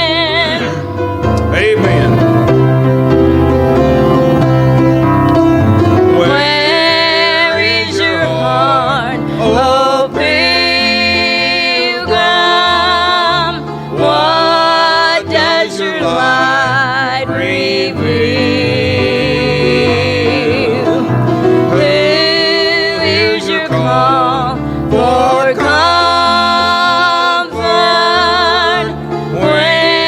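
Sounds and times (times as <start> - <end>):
person singing with vibrato: 0.0 - 3.1, 5.6 - 30.0
instrumental accompaniment: 0.0 - 30.0.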